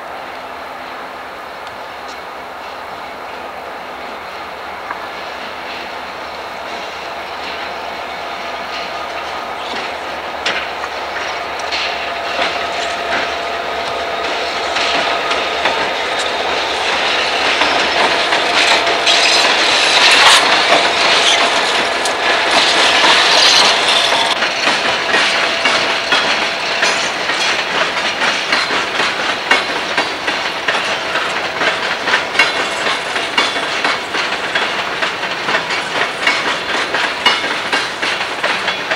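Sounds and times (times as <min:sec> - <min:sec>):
diesel locomotives: 0:00.0 - 0:38.9
train wheels clacking over rail joints: 0:04.8 - 0:38.9.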